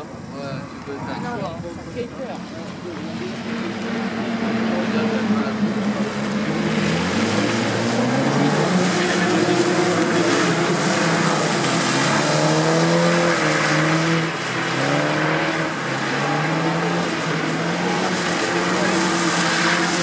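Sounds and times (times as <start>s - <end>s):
car engine revving: 2.0s - 20.0s.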